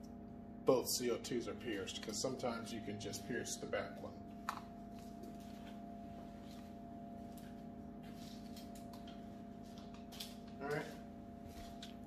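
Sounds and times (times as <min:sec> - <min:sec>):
quiet steady hum: 0:00.0 - 0:12.0.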